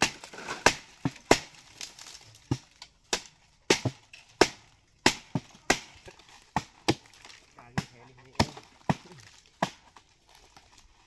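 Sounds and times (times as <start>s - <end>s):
blade chopping palm tree: 0.0s - 10.0s.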